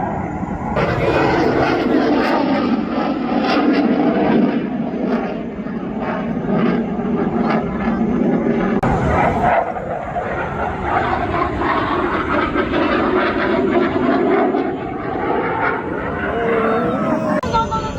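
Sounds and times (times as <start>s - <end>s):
aircraft engine noise: 0.0s - 17.9s.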